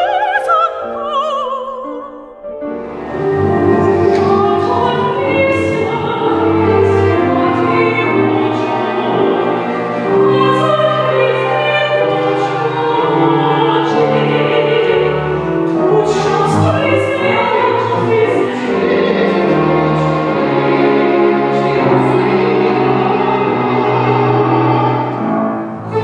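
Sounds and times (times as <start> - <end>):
choir singing: 0.0 - 26.0
opera voices singing: 0.0 - 26.0
string orchestra: 2.6 - 26.0.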